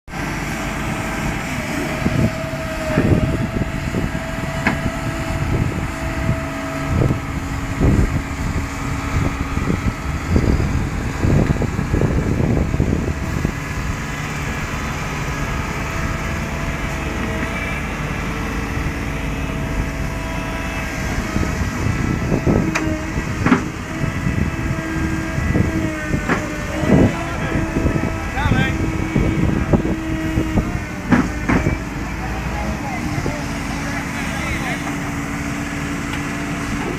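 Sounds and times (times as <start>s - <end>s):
diesel engines running: 0.0s - 36.9s.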